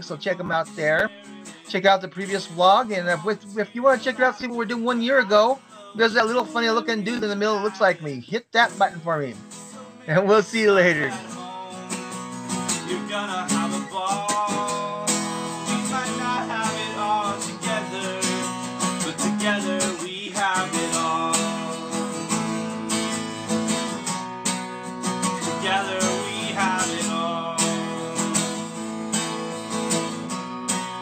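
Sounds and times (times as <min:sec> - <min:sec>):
strummed acoustic guitar song: 0:00.0 - 0:31.0.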